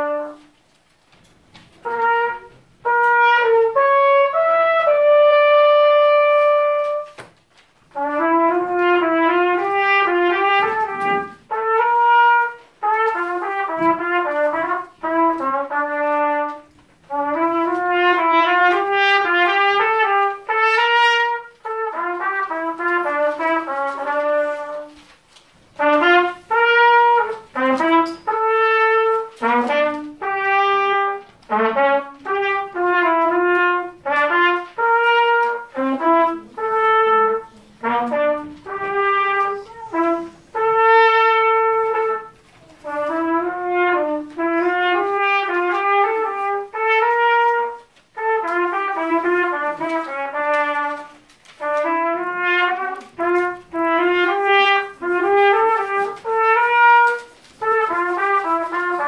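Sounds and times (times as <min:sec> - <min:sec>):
trumpet solo melody: 0:00.0 - 0:00.7, 0:01.6 - 0:59.0.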